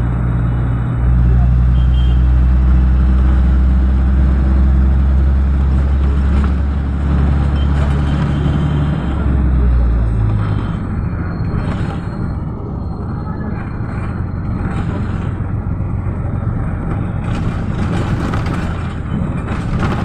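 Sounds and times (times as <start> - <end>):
road and traffic noise: 0.0 - 20.0
vehicle engine droning: 0.0 - 20.0.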